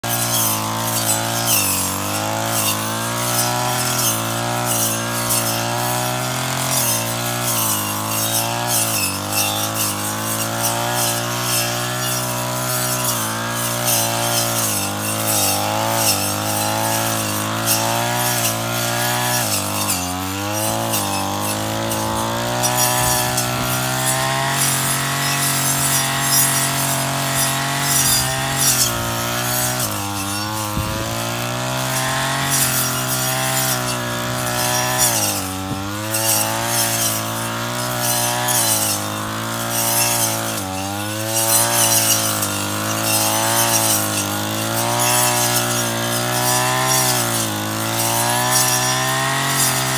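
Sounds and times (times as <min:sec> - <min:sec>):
brush cutter engine revving: 0:00.0 - 0:49.9
cutting head hissing through grass: 0:00.1 - 0:40.6.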